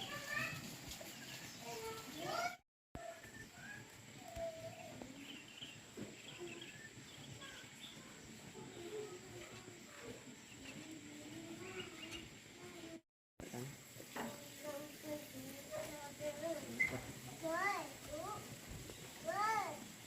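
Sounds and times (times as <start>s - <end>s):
small birds chirping: 0.0s - 13.0s, 14.0s - 20.0s.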